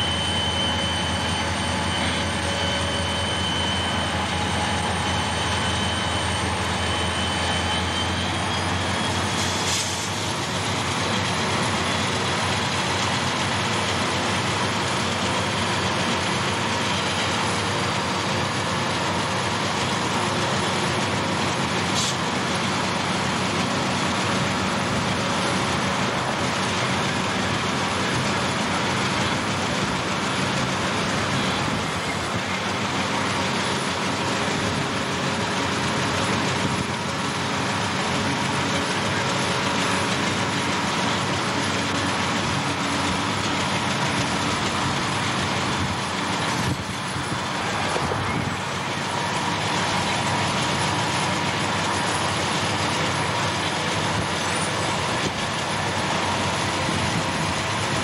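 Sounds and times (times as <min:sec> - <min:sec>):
diesel locomotive engines: 0:00.0 - 0:58.0
steel wheels rushing on rails: 0:00.0 - 0:58.0.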